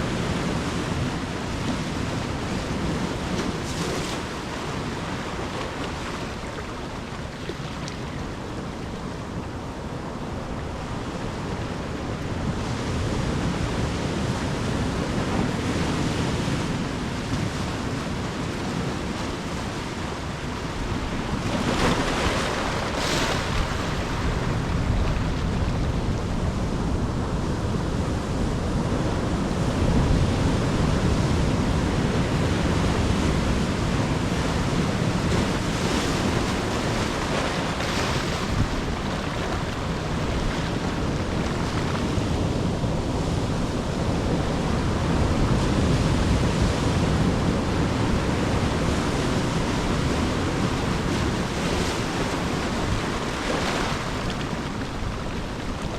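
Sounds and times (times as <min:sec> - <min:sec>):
surf breaking on shore: 0:00.0 - 0:09.4, 0:13.2 - 0:27.1, 0:31.6 - 0:55.9
low wind rumble: 0:00.0 - 0:55.9.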